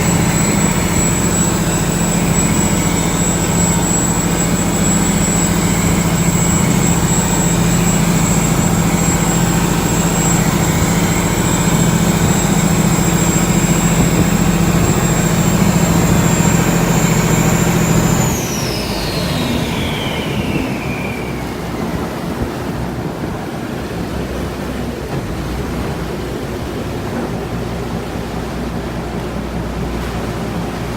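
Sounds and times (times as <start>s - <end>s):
boat engine drone and whine: 0.0s - 30.9s
water rushing: 0.0s - 30.9s
wind: 0.0s - 30.9s.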